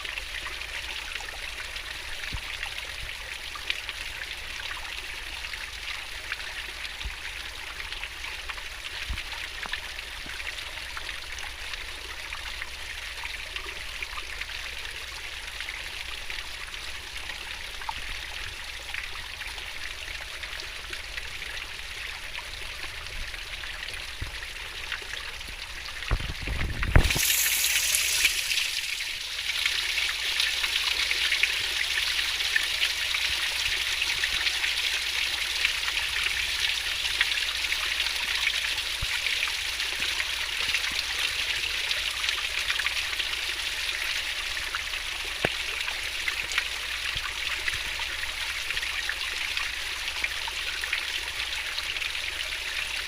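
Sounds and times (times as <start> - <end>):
stream babbling over rocks: 0.0 - 53.0.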